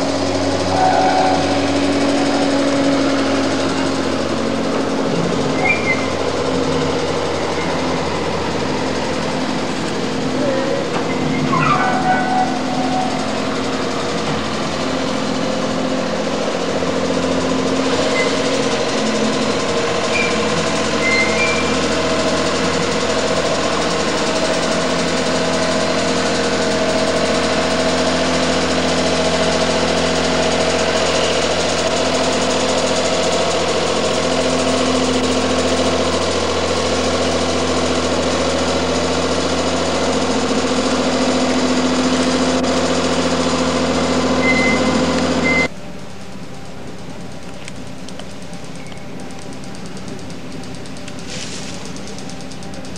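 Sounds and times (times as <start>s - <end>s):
tram diesel engine droning: 0.0s - 52.9s.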